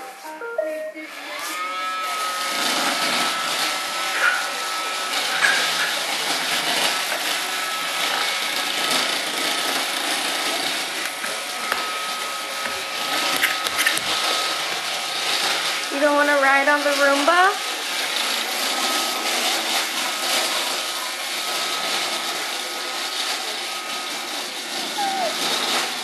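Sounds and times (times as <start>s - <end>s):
robot vacuum whirring: 1.0s - 26.0s.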